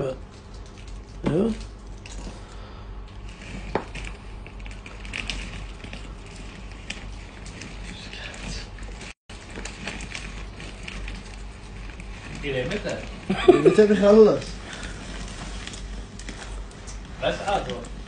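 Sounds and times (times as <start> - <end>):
low steady hum: 0.0 - 18.0
small crackles: 0.0 - 18.0
plastic crinkling and rustling: 0.1 - 18.0.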